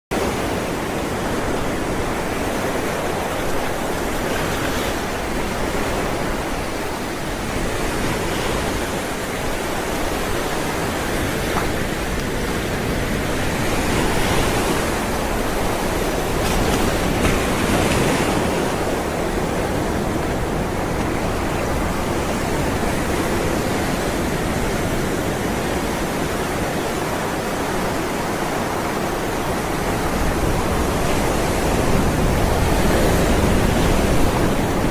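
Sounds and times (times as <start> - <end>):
ocean waves breaking on shore: 0.1 - 34.9.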